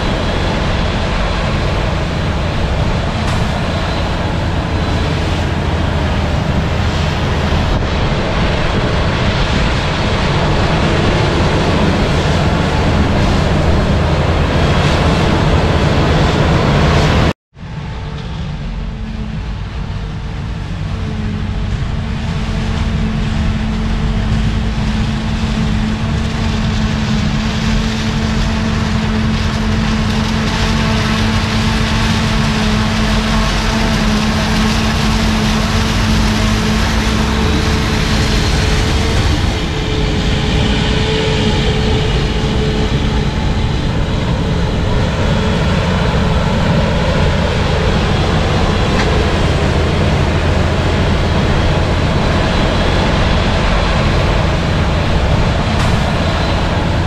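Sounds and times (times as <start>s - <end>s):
forage harvester machine drone: 0.0s - 57.0s
steady hum: 0.0s - 57.0s.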